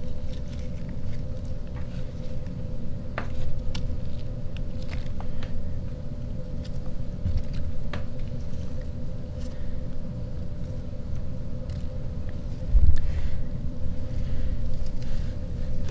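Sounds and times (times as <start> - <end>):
low rumble and hum: 0.0 - 15.9.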